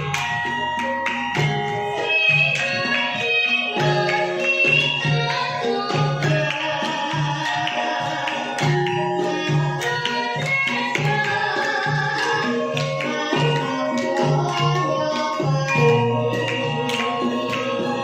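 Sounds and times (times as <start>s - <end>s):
hand drum beating: 0.0s - 18.0s
girl singing: 1.7s - 18.0s.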